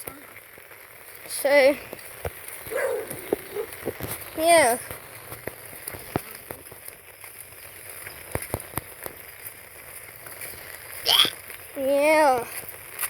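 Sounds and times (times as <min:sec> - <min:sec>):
rain falling: 0:00.0 - 0:13.0
raindrops ticking on surface: 0:00.0 - 0:13.0.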